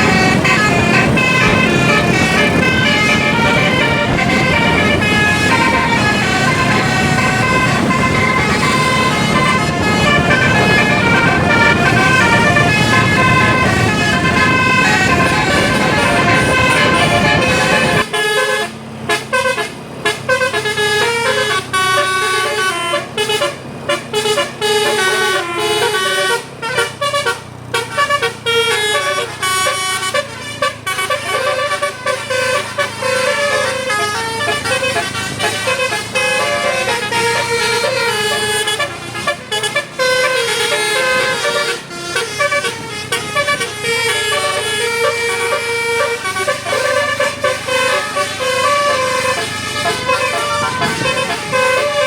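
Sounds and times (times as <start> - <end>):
musical air horn playing a tune: 0.0 - 52.0.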